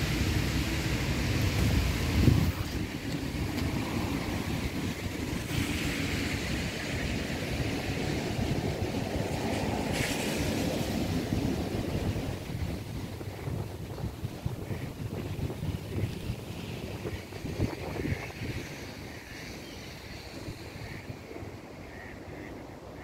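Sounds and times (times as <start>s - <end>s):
outdoor background hiss: 0.0s - 23.0s
wind rumbling on microphone: 0.0s - 23.0s.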